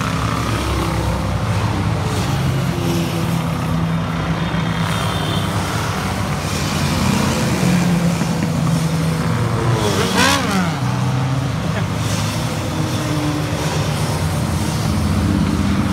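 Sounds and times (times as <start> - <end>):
motorcycles passing: 0.0 - 15.9
traffic noise: 0.0 - 15.9.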